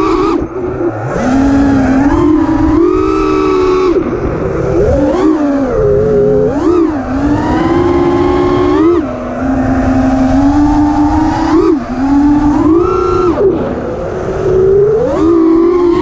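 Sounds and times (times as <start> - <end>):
rushing air noise: 0.0 - 15.4
quadcopter motors whining: 0.0 - 16.0.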